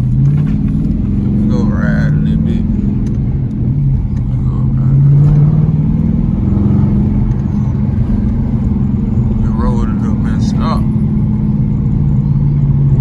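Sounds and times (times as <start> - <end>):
car engine exhaust driving: 0.0 - 13.0.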